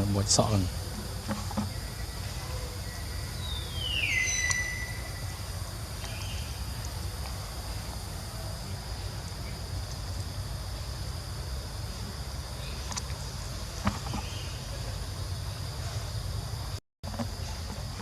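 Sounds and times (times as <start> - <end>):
insect buzz: 0.0 - 18.0.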